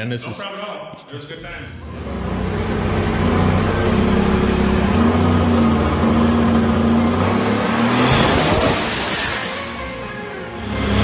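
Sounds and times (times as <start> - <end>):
engine at full throttle: 1.6 - 11.0.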